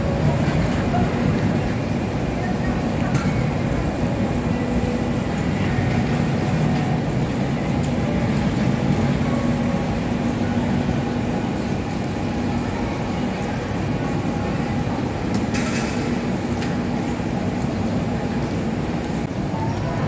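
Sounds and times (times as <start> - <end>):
low rumble of city traffic: 0.0 - 20.0.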